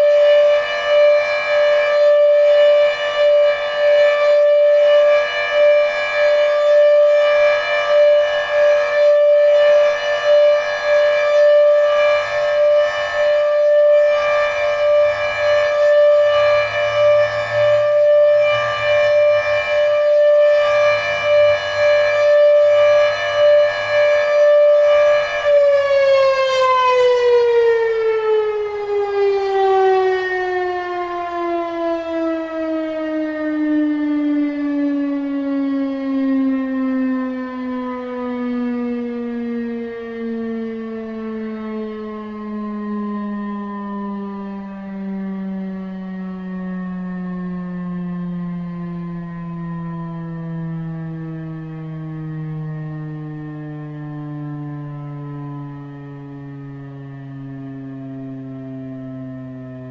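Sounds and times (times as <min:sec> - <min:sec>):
warning siren alert tone: 0:00.0 - 0:59.9.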